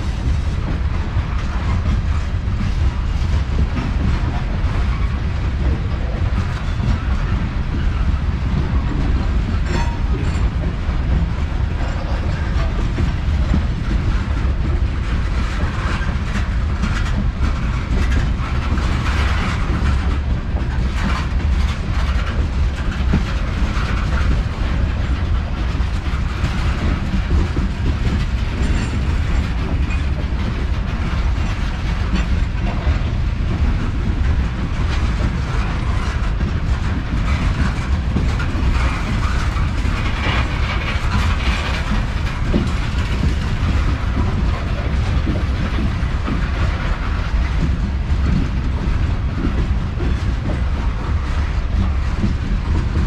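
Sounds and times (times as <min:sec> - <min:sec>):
freight train rumbling: 0:00.0 - 0:53.0
wheels clicking over rail joints: 0:00.0 - 0:53.0.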